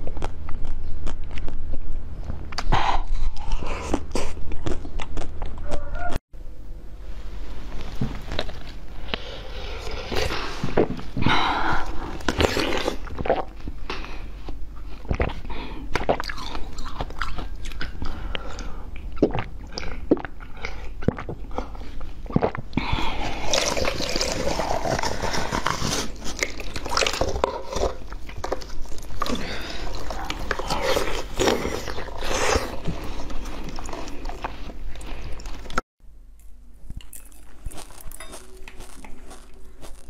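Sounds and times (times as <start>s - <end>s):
mouth eating jelly: 2.5s - 6.2s, 8.4s - 35.8s, 36.4s - 40.0s.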